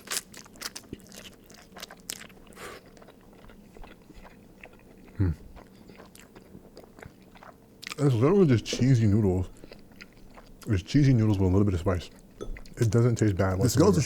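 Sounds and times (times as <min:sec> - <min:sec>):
person chewing noodles: 0:00.0 - 0:13.0.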